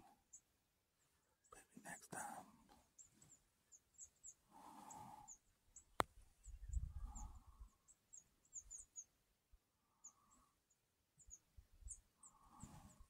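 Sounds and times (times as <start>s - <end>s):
small bird chirping: 0.1s - 9.2s, 9.8s - 13.0s.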